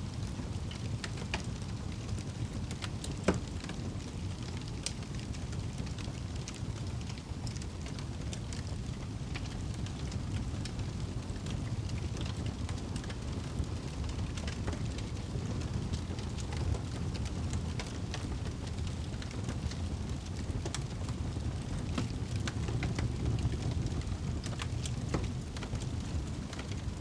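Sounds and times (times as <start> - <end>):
fire rumbling: 0.0 - 27.0
fire crackling and popping: 0.1 - 27.0.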